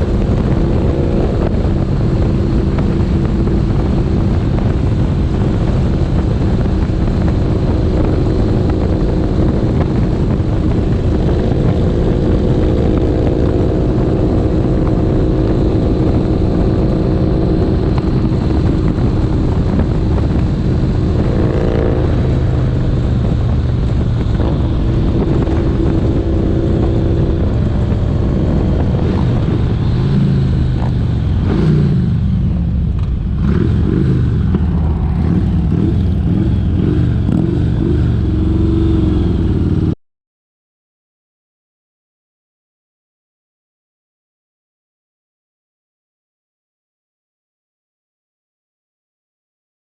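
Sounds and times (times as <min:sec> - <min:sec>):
motorcycle engine running: 0:00.0 - 0:40.0
wind rush over microphone: 0:00.0 - 0:40.0.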